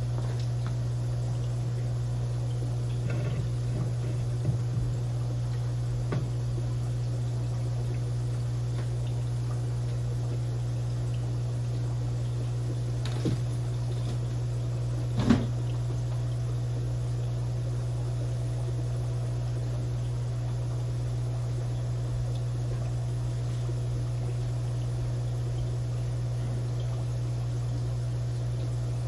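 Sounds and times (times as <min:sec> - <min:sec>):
aquarium filter humming: 0:00.0 - 0:29.0.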